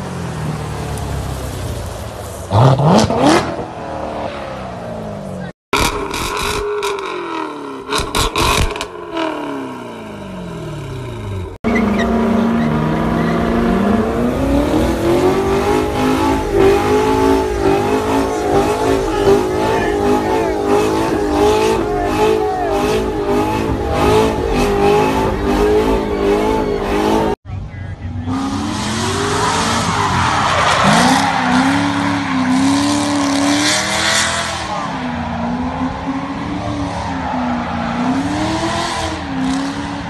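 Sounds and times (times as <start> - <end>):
car engine at high revs: 0.0 - 40.0
car engine revving: 0.0 - 40.0.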